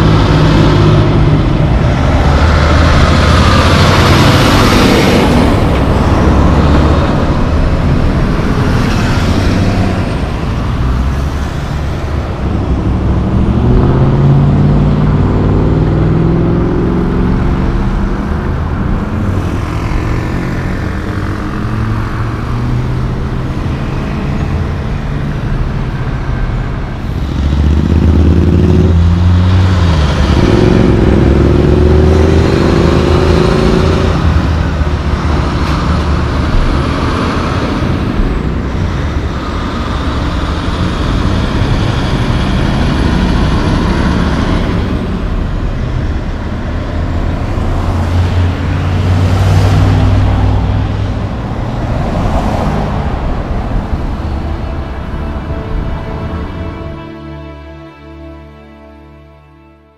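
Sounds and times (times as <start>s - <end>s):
truck engine shifting through gears: 0.0s - 56.8s
logging trucks driving past: 0.0s - 59.9s
road traffic: 0.0s - 59.9s.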